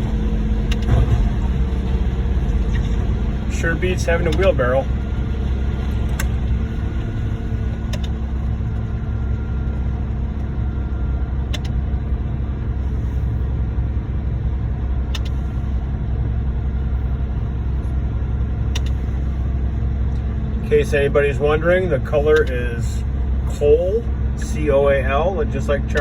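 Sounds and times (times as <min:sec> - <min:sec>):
diesel engines droning: 0:00.0 - 0:26.0.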